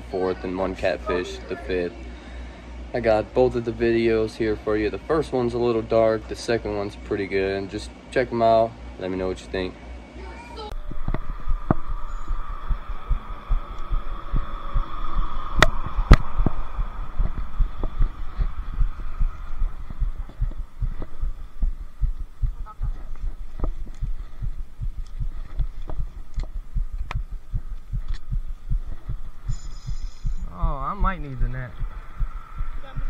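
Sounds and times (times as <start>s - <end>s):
faint high hum: 0.0s - 33.0s.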